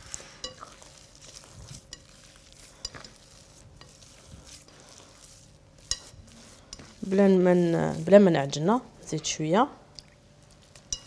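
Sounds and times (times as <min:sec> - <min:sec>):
hands kneading dough: 0:00.0 - 0:09.5.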